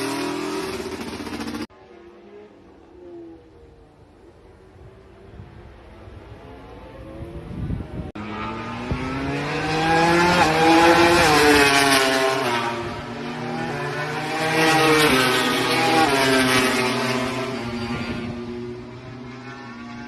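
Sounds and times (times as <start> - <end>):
racing motorcycles passing at high revs: 0.0 - 4.1, 4.8 - 20.0.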